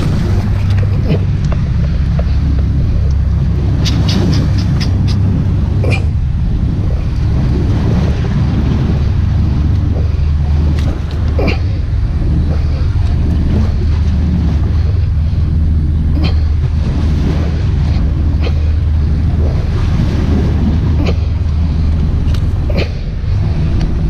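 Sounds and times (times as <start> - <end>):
sea washing on rocks: 0.0 - 24.0
wind buffeting microphone: 0.0 - 24.0.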